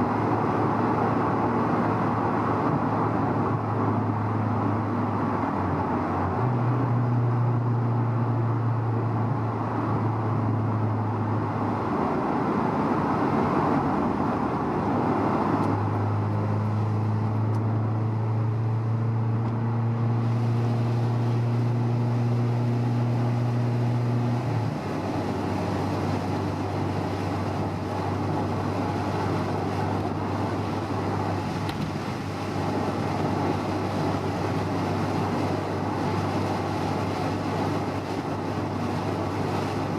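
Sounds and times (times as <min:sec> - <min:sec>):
low car engine drone: 0:00.0 - 0:39.9
road and tyre noise: 0:00.0 - 0:39.9.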